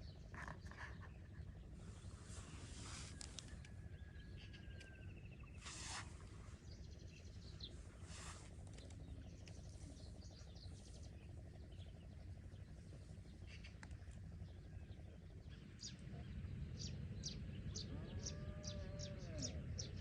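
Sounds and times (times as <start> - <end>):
small birds chirping and trilling: 0.0 - 20.0
steady low rumble: 0.0 - 20.0.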